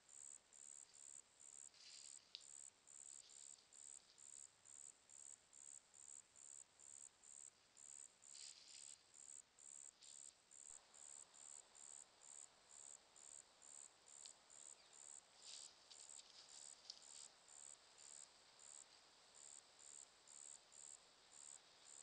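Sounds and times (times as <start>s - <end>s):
insect chirping: 0.1s - 22.0s.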